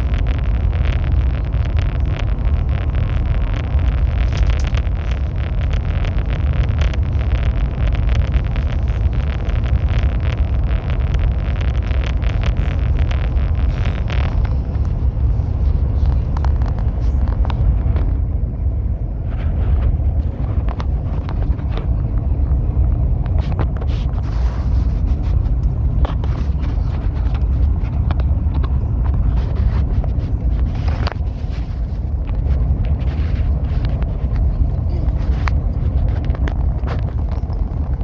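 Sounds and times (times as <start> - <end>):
train rumbling at speed: 0.0 - 38.0.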